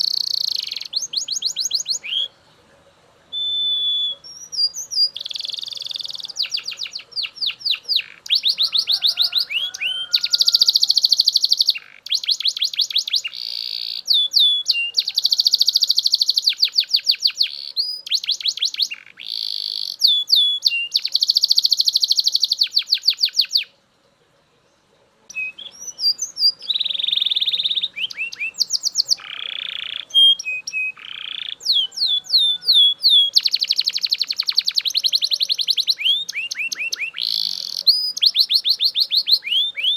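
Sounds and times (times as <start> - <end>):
canary singing fast trills: 0.0 - 24.0, 24.8 - 39.9.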